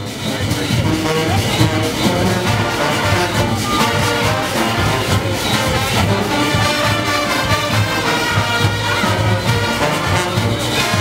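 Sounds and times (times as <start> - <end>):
brass horns playing a tune: 0.0 - 11.0
pulsing drumming and percussion: 0.0 - 11.0.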